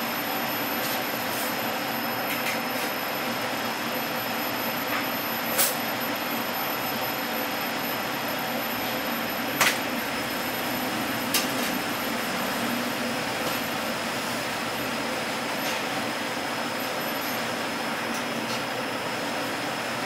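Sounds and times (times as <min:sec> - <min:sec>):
kitchen ventilation hum and hiss: 0:00.0 - 0:20.0.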